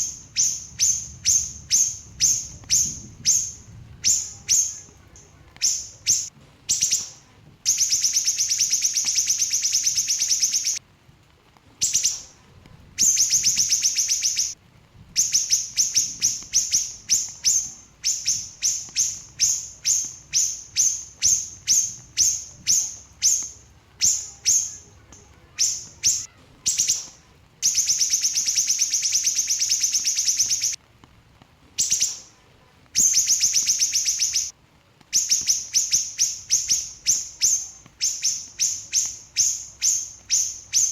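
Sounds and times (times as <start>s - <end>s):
songbird chirping: 0.0s - 10.9s, 11.6s - 30.9s, 31.8s - 40.9s.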